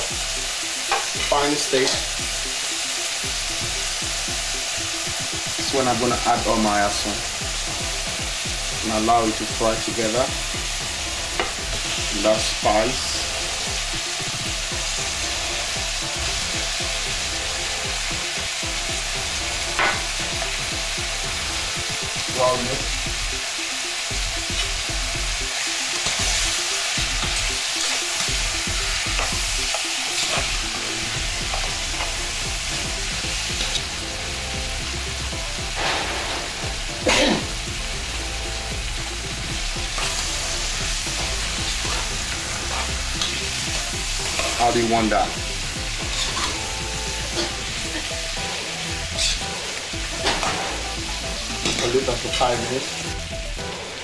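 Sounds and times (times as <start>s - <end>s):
meat and onions sizzling in a pot: 0.0s - 54.0s.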